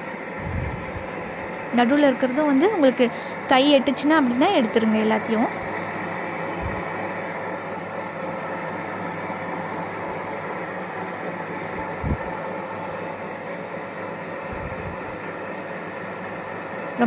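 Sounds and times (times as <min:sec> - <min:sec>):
wet grinder motor humming: 0:00.0 - 0:17.0.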